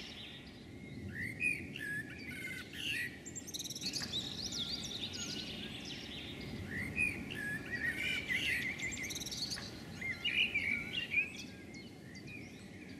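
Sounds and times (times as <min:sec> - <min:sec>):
low background noise: 0:00.0 - 0:12.9
small birds chirping: 0:00.0 - 0:12.9.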